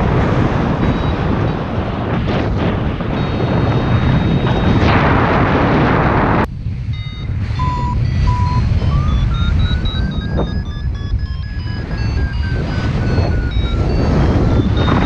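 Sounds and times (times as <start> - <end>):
wind buffeting microphone: 0.0 - 15.0
wind noise: 0.0 - 15.0
variometer beeping rising tones: 0.6 - 4.9, 6.8 - 15.0.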